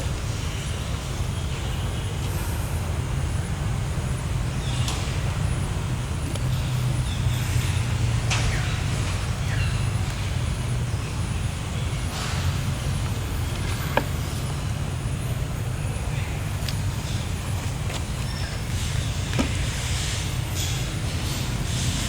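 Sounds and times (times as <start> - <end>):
low engine-like rumble: 0.0 - 22.0.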